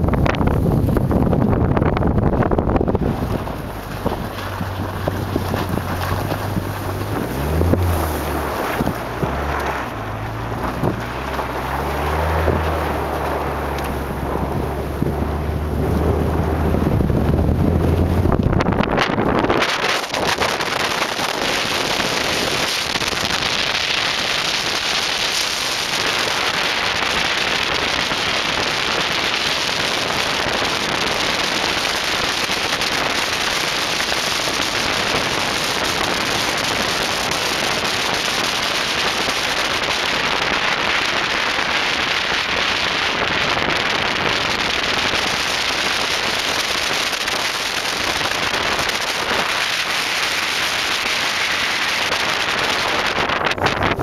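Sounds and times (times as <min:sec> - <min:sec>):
car tyres spinning on tarmac: 0:00.0 - 0:54.0.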